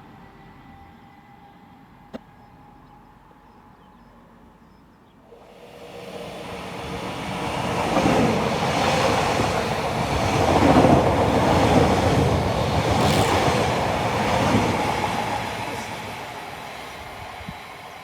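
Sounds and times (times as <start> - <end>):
train passing with rail rumble: 0.0 - 18.0.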